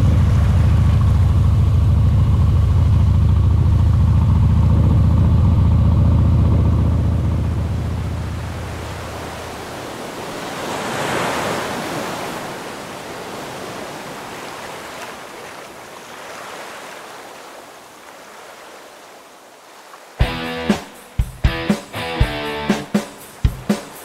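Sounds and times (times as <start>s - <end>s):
ocean surf: 0.0s - 24.0s
wind: 0.0s - 24.0s.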